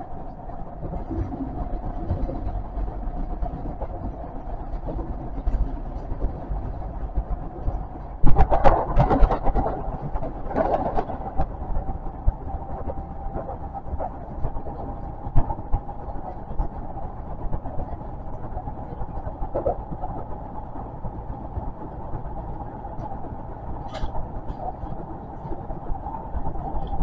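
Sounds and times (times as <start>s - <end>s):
passing train: 0.0s - 27.0s
train wheels rumbling on rail: 0.0s - 27.0s.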